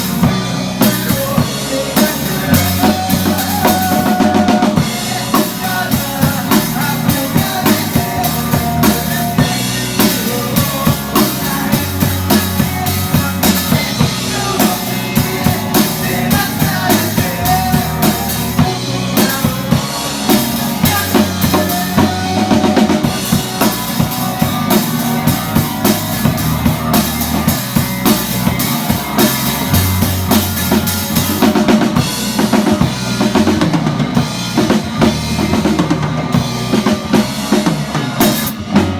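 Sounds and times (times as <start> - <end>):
drum kit beat: 0.0 - 38.9
live band playing: 0.0 - 38.9.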